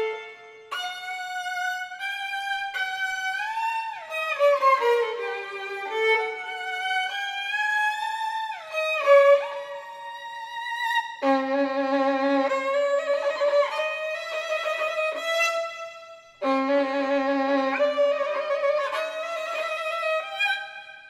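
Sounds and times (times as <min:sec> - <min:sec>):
solo violin sliding notes: 0:00.0 - 0:21.0.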